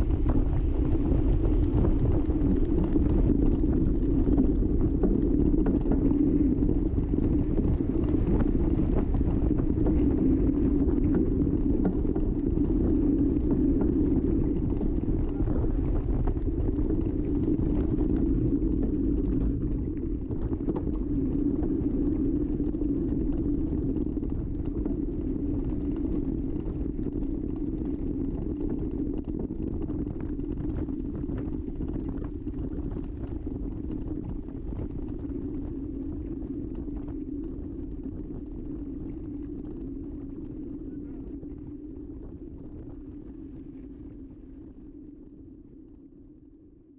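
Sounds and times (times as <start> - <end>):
wind buffeting microphone: 0.0 - 46.1.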